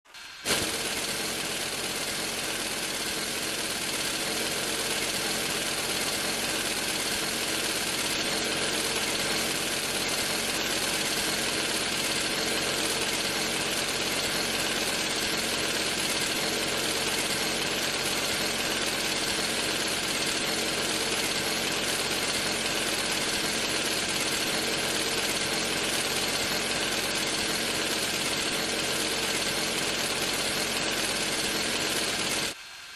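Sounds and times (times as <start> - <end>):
drill whirring: 0.1 - 32.6.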